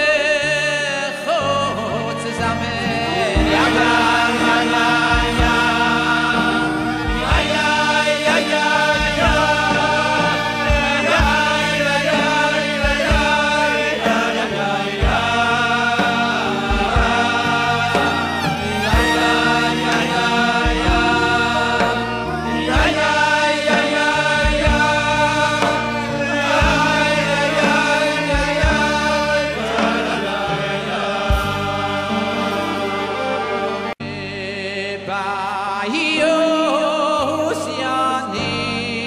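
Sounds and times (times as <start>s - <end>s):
men singing through microphones: 0.0s - 39.0s.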